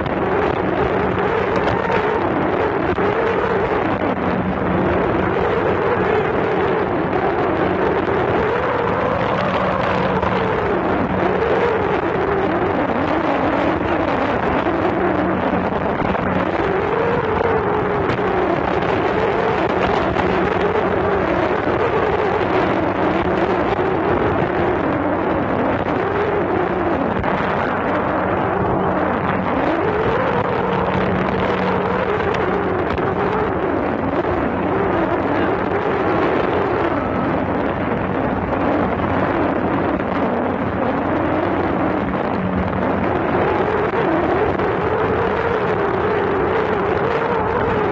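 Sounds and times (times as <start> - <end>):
speedboat engine running: 0.0 - 47.9
steady rushing noise: 0.0 - 47.9.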